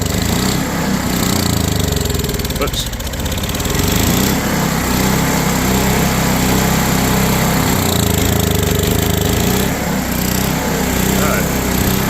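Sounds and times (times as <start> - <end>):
portable generator running: 0.0 - 12.0.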